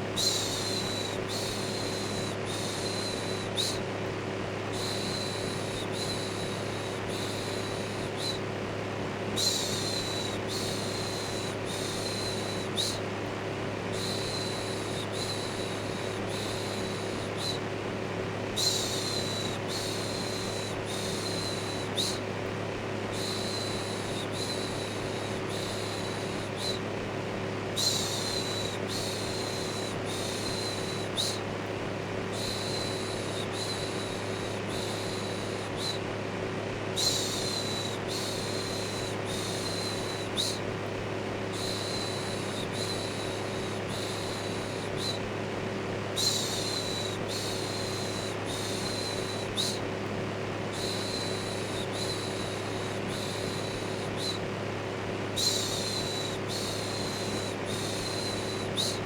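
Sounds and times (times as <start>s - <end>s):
electric fan humming: 0.0s - 59.0s.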